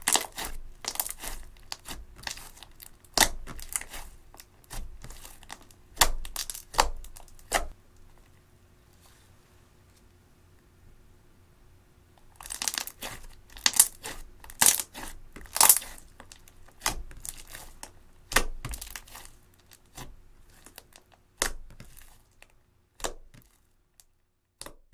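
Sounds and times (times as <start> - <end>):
slime crackling and popping: 0.0 - 7.8, 12.2 - 24.8.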